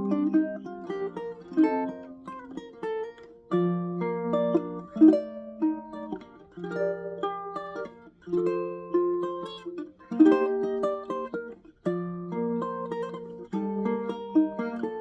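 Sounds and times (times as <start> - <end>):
ukulele plucked and strummed: 0.0 - 15.0.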